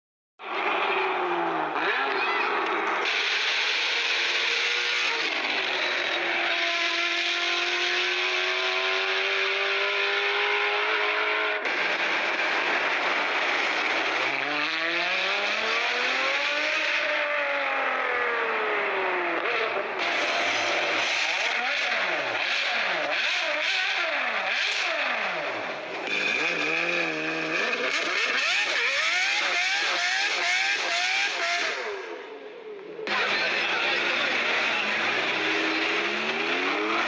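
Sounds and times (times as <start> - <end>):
vehicle engine revving: 0.5 - 37.0.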